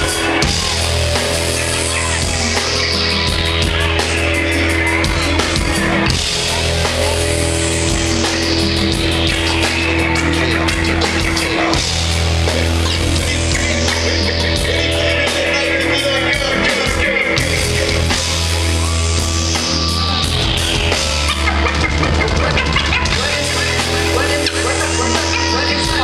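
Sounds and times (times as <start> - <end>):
live rock music: 0.0 - 26.0.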